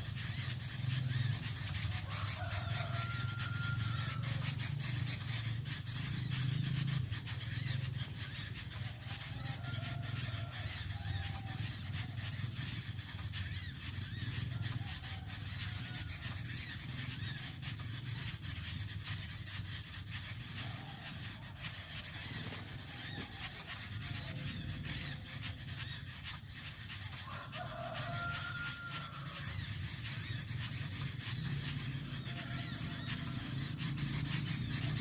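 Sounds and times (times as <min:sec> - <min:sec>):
steady low rumble: 0:00.0 - 0:27.3, 0:28.0 - 0:35.0
small birds chirping: 0:00.0 - 0:35.0.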